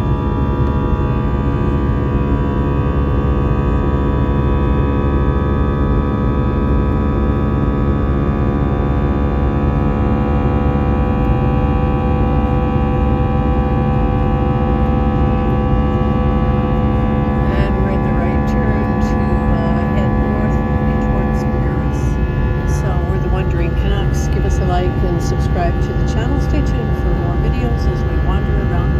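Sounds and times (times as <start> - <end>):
jet engines droning in cabin: 0.0 - 28.9.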